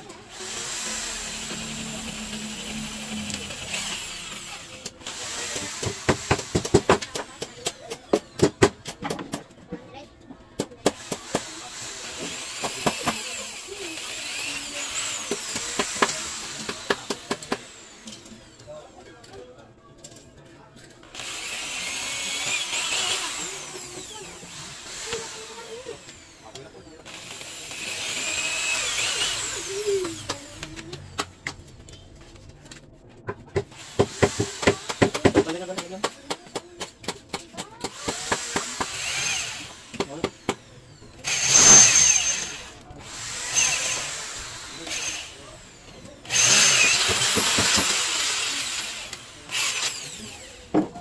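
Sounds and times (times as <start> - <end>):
electric drill boring through metal: 0.0 - 7.6, 10.9 - 18.7, 21.0 - 30.9, 33.7 - 36.0, 37.7 - 51.0.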